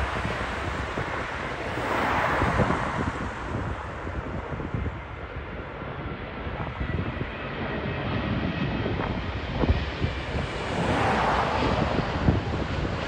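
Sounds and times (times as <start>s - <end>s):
jet engines of passing airliner: 0.0s - 13.0s
wind buffeting microphone: 0.0s - 13.0s.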